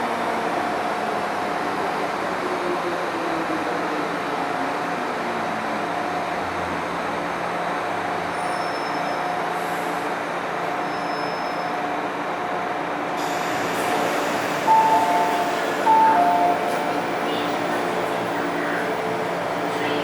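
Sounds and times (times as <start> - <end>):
train rolling and traction noise: 0.0 - 20.0.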